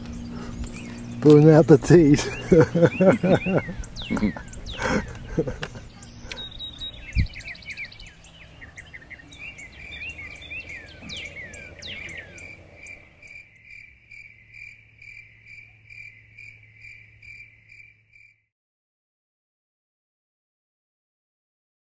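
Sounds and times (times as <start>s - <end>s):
birds chirping: 0.0s - 18.3s
crickets chirping: 0.0s - 18.5s.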